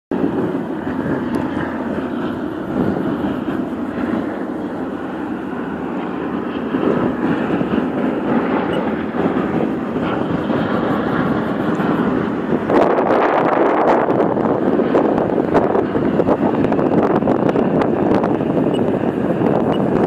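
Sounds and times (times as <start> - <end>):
propeller planes droning overhead: 0.1 - 20.0.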